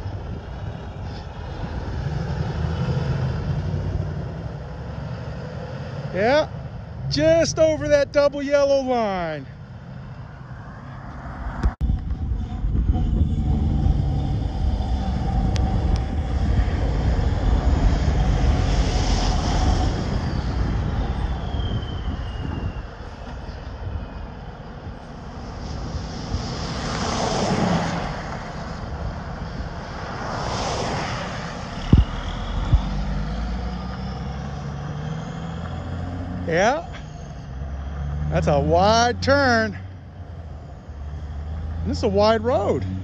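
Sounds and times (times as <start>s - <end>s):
truck diesel engine rumbling: 0.0s - 43.0s
vehicles swishing past: 0.0s - 43.0s.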